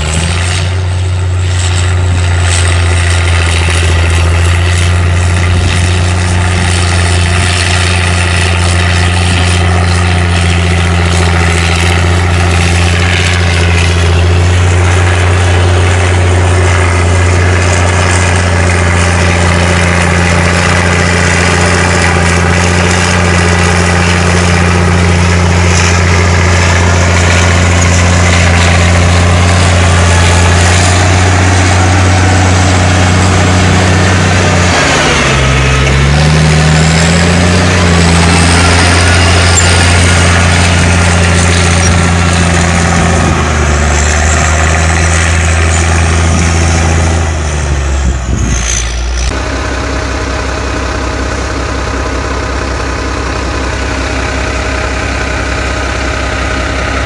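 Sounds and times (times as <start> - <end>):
bulldozer blade pushing dirt: 0.0 - 57.0
bulldozer diesel engine running: 0.0 - 57.0.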